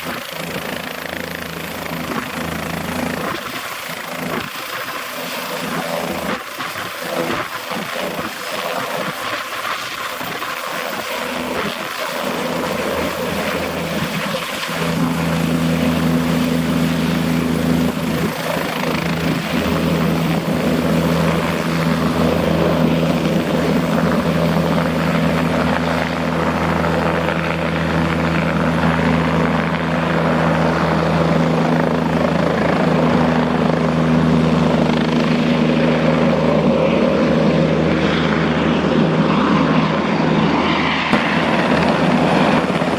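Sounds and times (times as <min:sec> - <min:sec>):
helicopter rotor and engine: 0:00.0 - 0:42.9.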